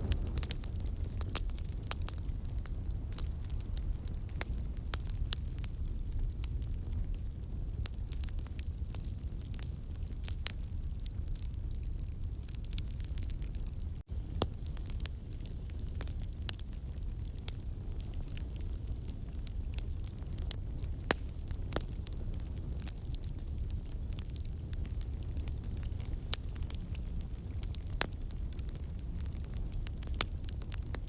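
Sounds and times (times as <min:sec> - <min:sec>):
fire crackling and popping: 0:00.0 - 0:31.0
fire flames rumbling: 0:00.0 - 0:31.0.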